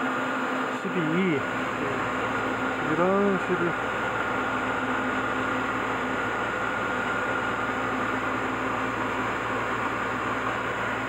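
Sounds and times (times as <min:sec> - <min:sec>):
industrial machine hum and whir: 0:00.0 - 0:11.0.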